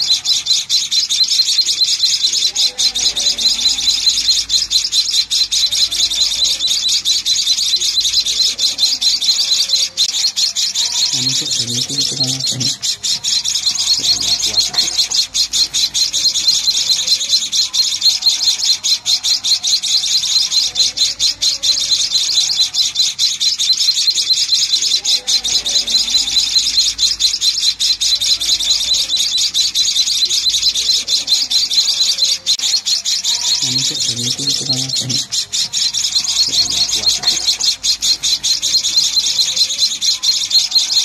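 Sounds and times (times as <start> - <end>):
nestling birds chirping: 0.0 - 41.0.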